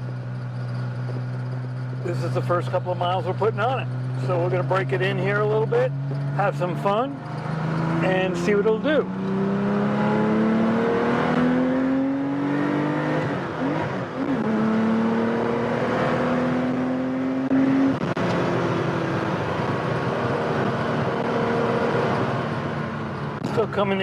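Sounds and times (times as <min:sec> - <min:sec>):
car engine revving through gears: 0:00.0 - 0:23.6.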